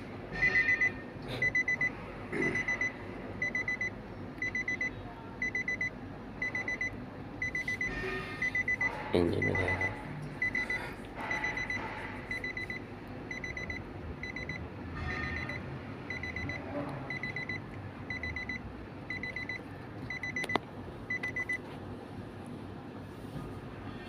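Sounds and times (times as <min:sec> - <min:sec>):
rapid high-pitched warning beeps: 0:00.3 - 0:21.6.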